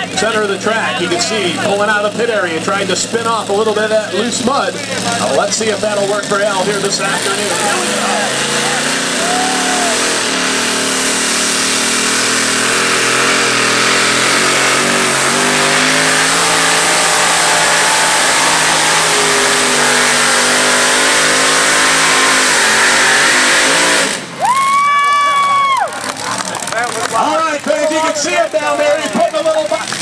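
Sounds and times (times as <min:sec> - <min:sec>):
truck engine at high revs: 0:00.0 - 0:30.0.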